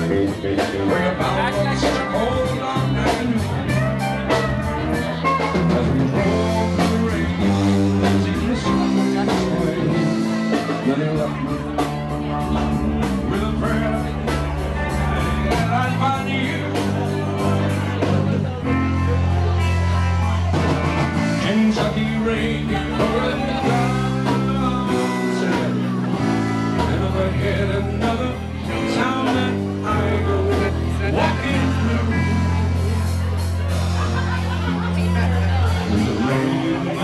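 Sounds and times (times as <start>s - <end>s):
bass line: 0.0s - 37.0s
guitar: 0.0s - 37.0s
live band playing loudly: 0.0s - 37.0s.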